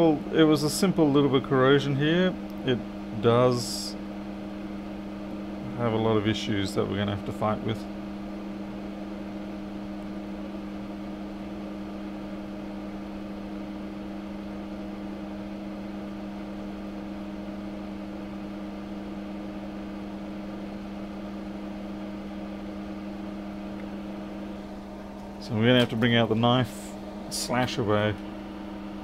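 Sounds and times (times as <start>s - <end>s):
electric equipment hum: 0.0s - 29.0s.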